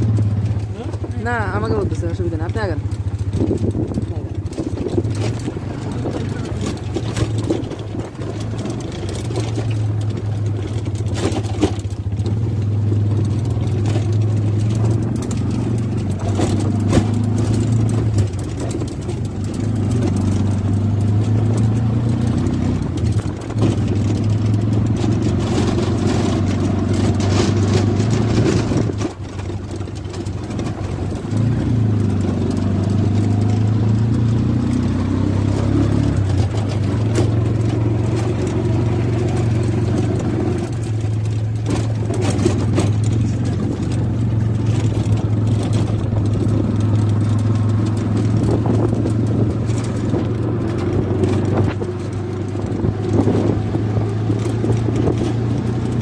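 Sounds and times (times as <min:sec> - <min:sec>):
small vehicle engine running: 0:00.0 - 0:56.0.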